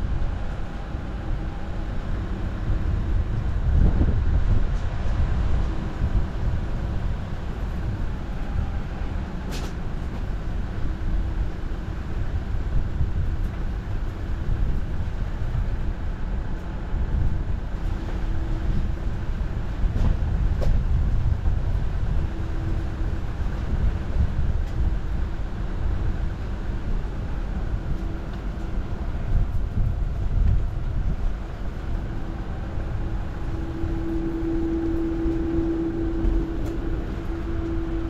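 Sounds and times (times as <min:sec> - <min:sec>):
engine and tyres rumbling: 0:00.0 - 0:38.0.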